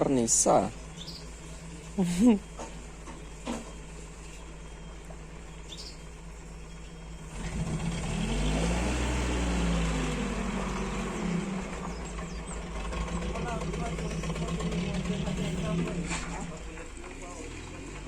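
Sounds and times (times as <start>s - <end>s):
motor vehicle passing by: 0.7s - 18.0s.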